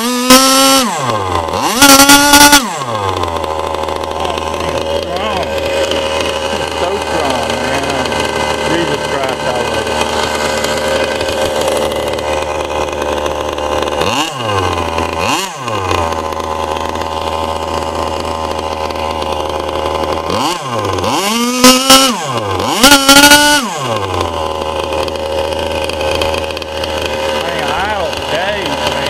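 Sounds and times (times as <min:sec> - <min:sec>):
model engine revving: 0:00.0 - 0:29.0.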